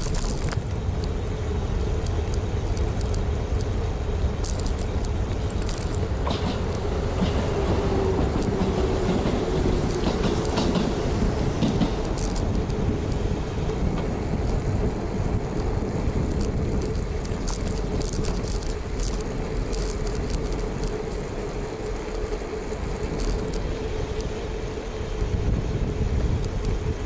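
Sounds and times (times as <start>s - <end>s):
light high-pitched ticks and rattles: 0.0s - 24.4s, 26.2s - 27.0s
passing traffic: 0.0s - 27.0s
road rumble: 0.0s - 27.0s
wind on microphone: 0.0s - 27.0s.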